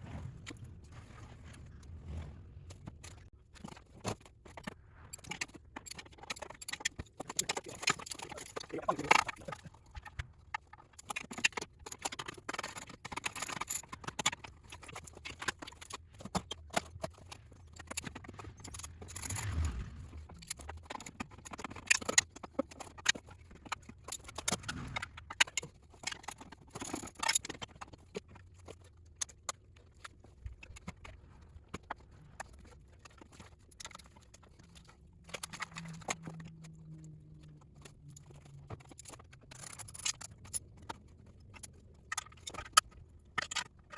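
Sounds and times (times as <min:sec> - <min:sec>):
tools and metal parts clanking: 0:02.8 - 0:30.1, 0:31.8 - 0:36.7, 0:37.4 - 0:43.9.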